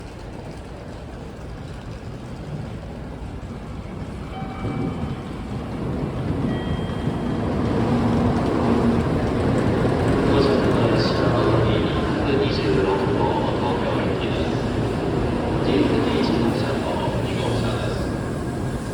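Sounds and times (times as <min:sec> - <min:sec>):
train rumble and rush: 0:00.0 - 0:18.9.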